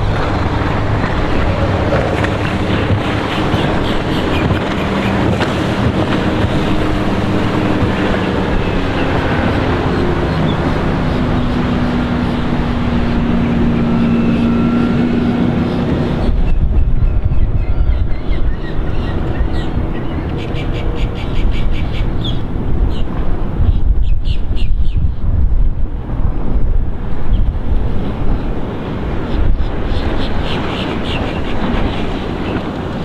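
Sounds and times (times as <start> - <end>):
rushing water: 0.0 - 24.6, 25.2 - 33.0
boat engine running: 0.0 - 33.0
wind noise on microphone: 0.0 - 33.0.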